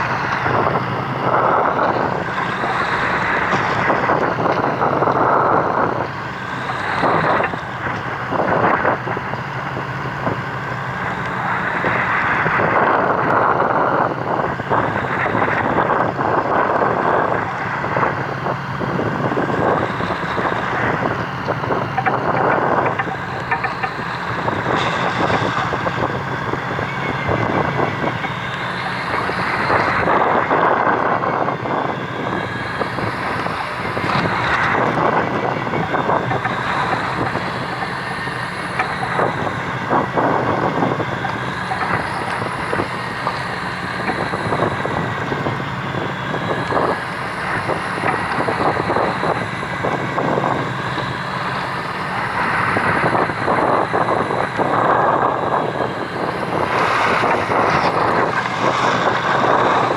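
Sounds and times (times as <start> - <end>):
boat engine running: 0.0 - 59.9
wind on microphone: 0.0 - 59.9.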